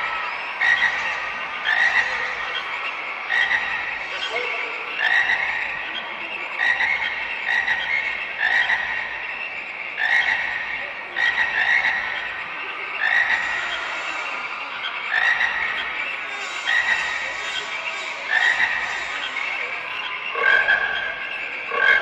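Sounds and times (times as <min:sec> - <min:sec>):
frog croaking over loudspeakers: 0:00.0 - 0:22.0
background frog calling: 0:00.6 - 0:22.0.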